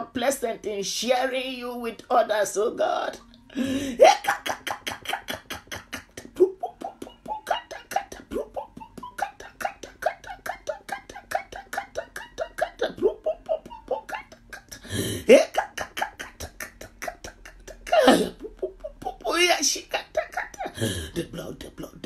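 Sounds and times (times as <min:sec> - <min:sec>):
woman praying in tongues: 0:00.0 - 0:03.3, 0:03.9 - 0:14.6, 0:15.3 - 0:22.0.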